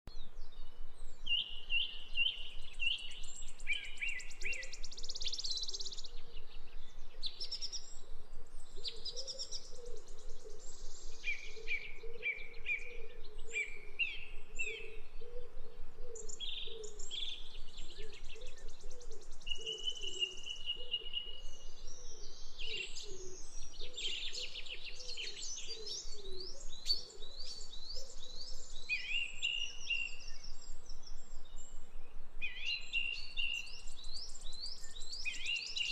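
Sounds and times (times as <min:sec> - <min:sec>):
birds singing and calling: 0:00.1 - 0:35.9.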